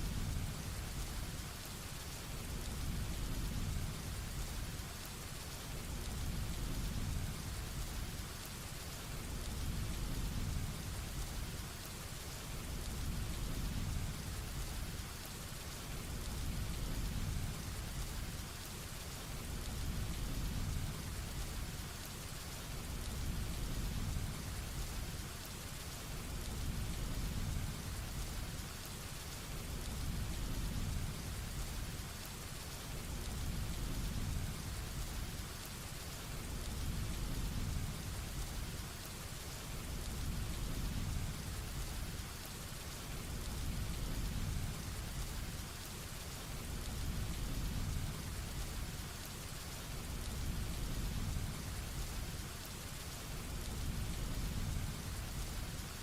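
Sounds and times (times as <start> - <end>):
heavy rain falling: 0.2 - 56.0.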